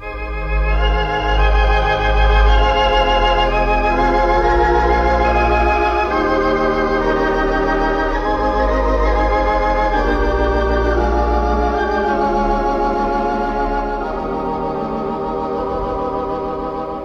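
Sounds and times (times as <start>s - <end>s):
deep organ bass note: 0.0s - 17.0s
pipe organ chords: 0.0s - 17.0s.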